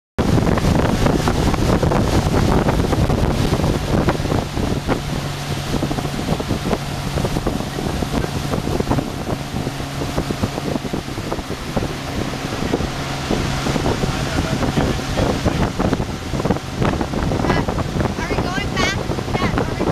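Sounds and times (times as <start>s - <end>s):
churning wake rushing: 0.2s - 19.9s
motorboat engine running: 0.2s - 19.9s
wind buffeting microphone: 0.2s - 19.9s.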